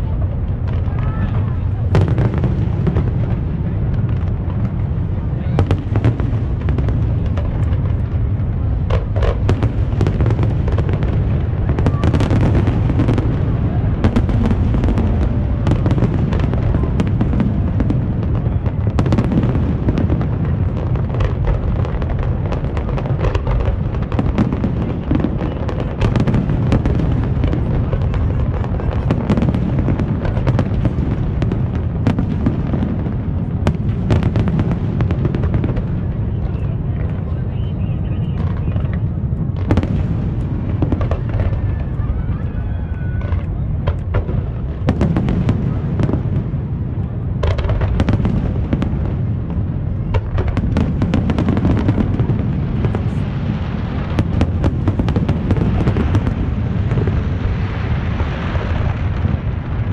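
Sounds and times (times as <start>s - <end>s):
firework cracks and pops: 0.0s - 59.9s
rumble of firework booms: 0.0s - 59.9s.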